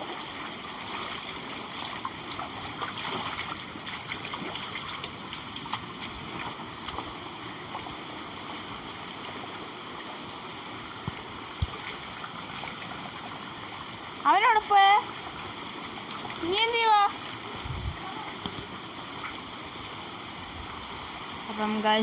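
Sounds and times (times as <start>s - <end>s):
water rushing through drain: 0.0s - 22.0s.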